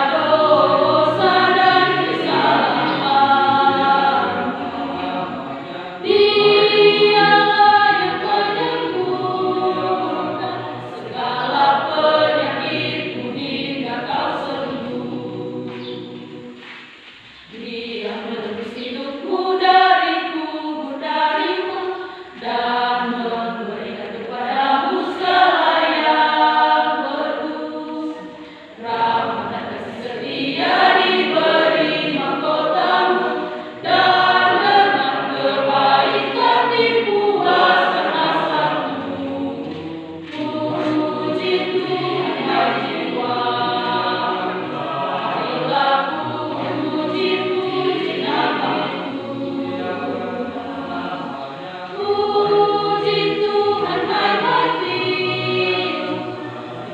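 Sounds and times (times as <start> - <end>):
women's choir singing a hymn: 0.0 - 56.9.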